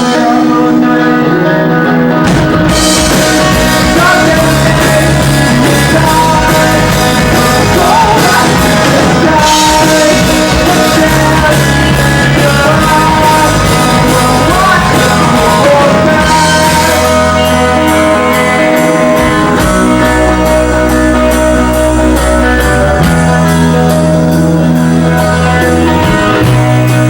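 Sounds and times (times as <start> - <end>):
bass guitar: 0.0 - 27.0
distorted guitars: 0.0 - 27.0
drum kit: 0.0 - 27.0
person singing: 0.0 - 27.0.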